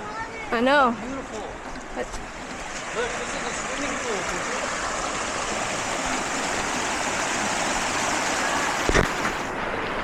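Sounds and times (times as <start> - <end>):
water rushing over rocks: 1.1 - 10.0.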